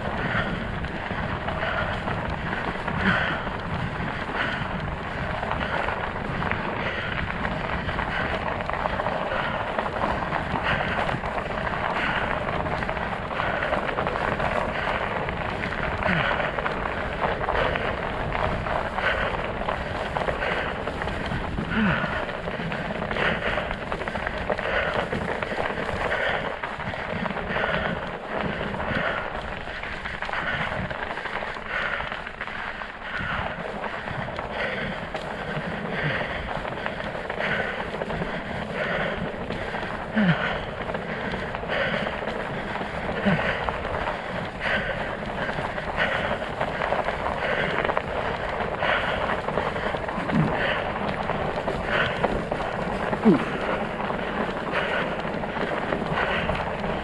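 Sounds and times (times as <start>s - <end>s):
bike tyres crunching over snow: 0.0s - 57.0s.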